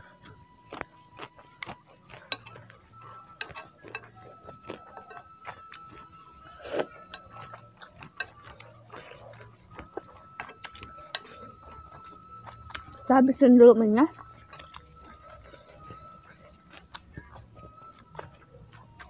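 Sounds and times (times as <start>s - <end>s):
faint steady high tone: 0.0s - 19.0s
wet chewing clicks: 0.0s - 19.0s.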